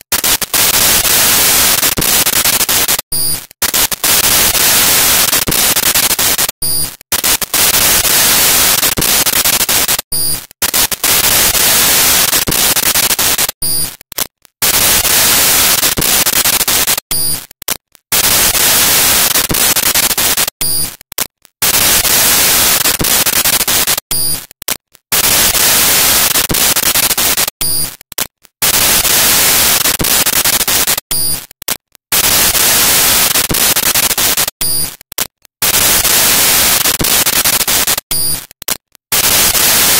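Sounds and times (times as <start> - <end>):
static hiss: 0.0 - 14.0, 14.6 - 17.5, 18.1 - 21.0, 21.6 - 28.0, 28.6 - 31.5, 32.1 - 35.0, 35.6 - 38.5, 39.1 - 39.9.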